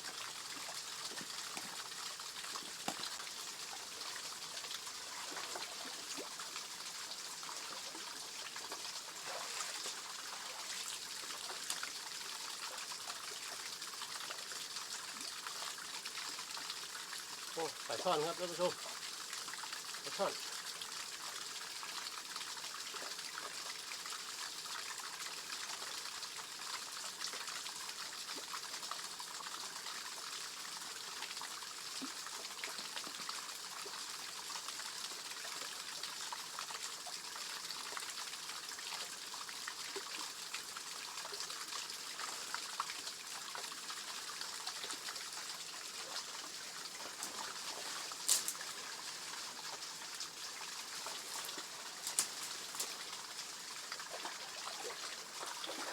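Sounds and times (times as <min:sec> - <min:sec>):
stream water trickling over waterfall: 0:00.0 - 0:55.9.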